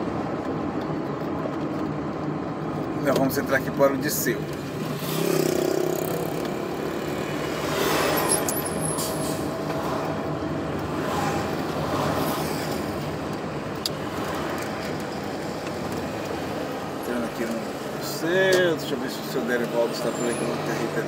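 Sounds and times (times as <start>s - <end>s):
car road and engine noise: 0.0s - 21.0s
oncoming traffic passing: 0.0s - 21.0s.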